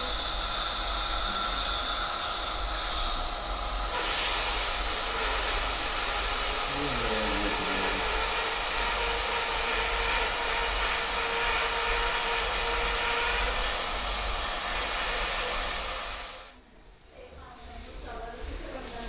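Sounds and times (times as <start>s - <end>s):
steady rushing hiss: 0.0s - 16.6s.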